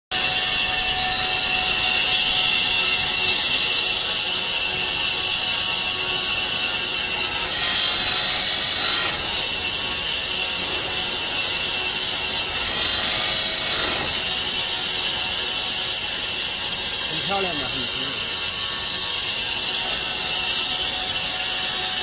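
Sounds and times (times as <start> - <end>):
band-knife machine hissing: 0.1 - 22.0.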